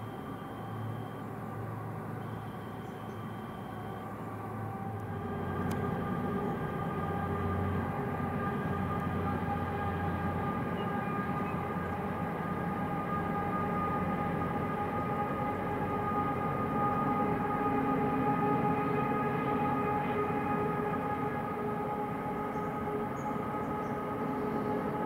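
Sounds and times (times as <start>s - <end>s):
constant whine: 0.0s - 25.0s
low hum: 0.0s - 25.0s.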